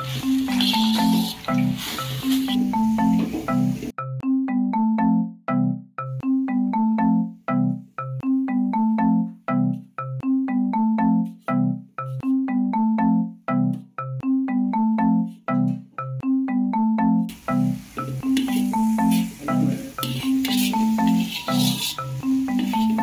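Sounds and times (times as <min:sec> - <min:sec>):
marimba tune: 0:00.0 - 0:23.0.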